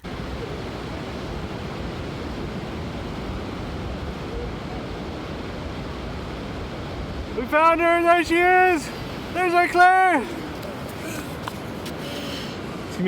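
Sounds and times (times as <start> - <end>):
ocean surf: 0.0 - 13.0
wind rushing over microphone: 0.0 - 13.0.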